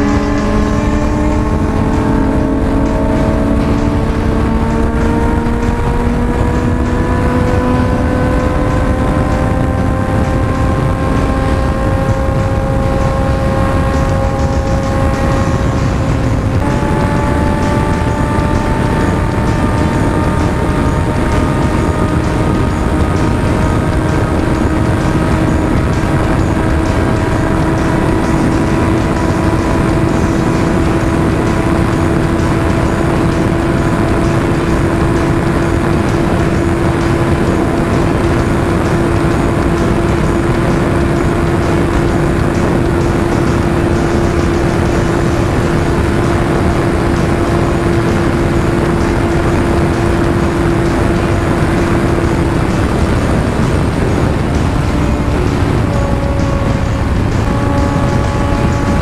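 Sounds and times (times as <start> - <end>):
motorcycle engine drone: 0.0 - 59.0
wind rush on microphone: 0.0 - 59.0.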